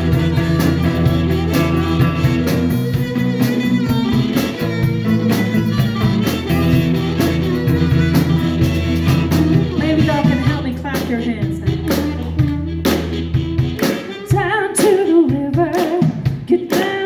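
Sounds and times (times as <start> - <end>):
blues band playing: 0.0 - 17.0
electric guitar: 0.0 - 17.0.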